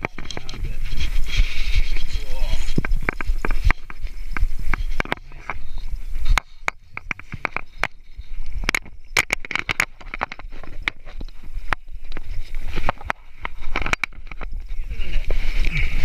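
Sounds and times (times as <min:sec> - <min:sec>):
handling noise clicks and rustling: 0:00.0 - 0:14.7.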